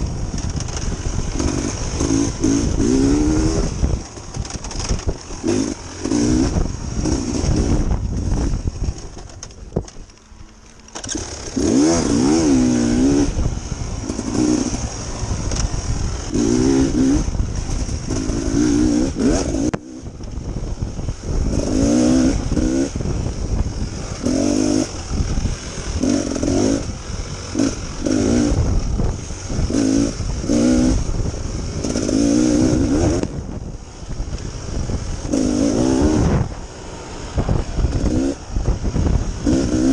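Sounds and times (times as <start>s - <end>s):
dirt bike engine revving: 0.0s - 9.5s, 10.9s - 39.9s.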